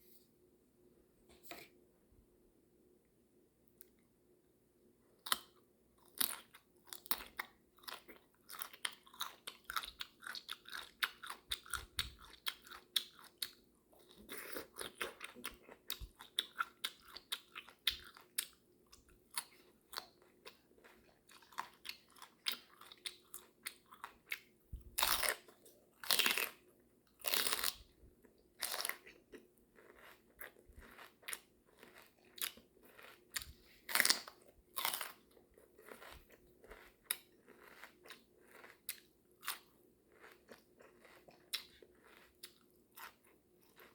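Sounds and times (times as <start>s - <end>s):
person chewing food: 5.2s - 43.9s.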